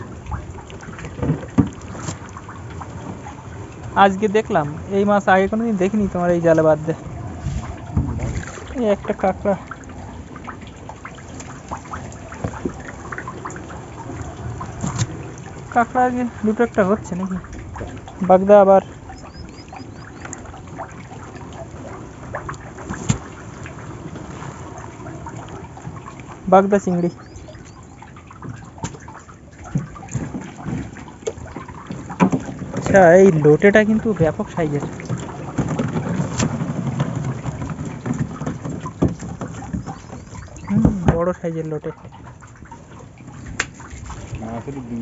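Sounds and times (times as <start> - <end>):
water dripping and splashing: 0.0 - 45.0
wet net being hauled: 0.0 - 45.0.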